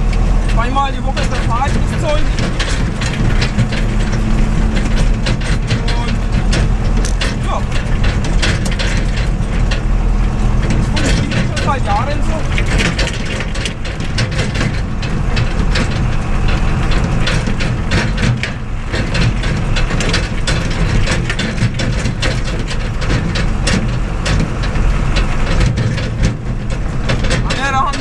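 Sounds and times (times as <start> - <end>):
cab and load rattling: 0.0 - 28.0
tractor diesel engine droning: 0.0 - 28.0.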